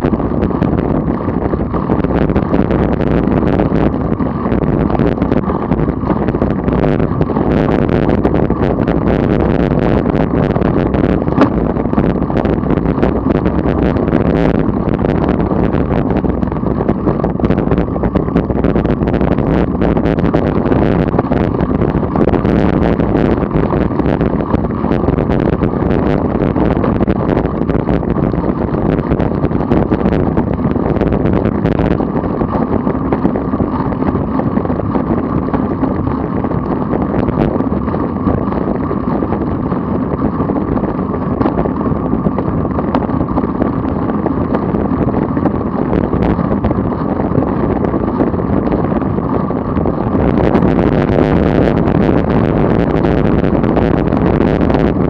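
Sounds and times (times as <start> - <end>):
wind noise on microphone: 0.0 - 55.0.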